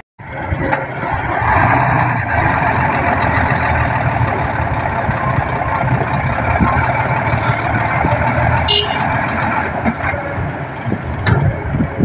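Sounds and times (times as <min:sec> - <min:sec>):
diesel truck engine under load: 0:00.2 - 0:12.0.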